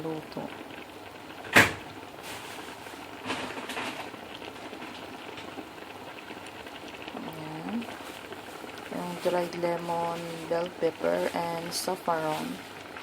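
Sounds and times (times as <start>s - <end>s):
pot simmering with hiss: 0.0s - 13.0s.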